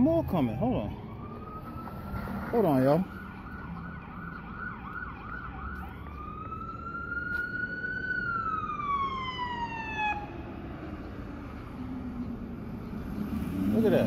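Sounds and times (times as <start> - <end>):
emergency siren yelping and wailing: 0.0 - 14.0
engine rumble: 0.0 - 14.0.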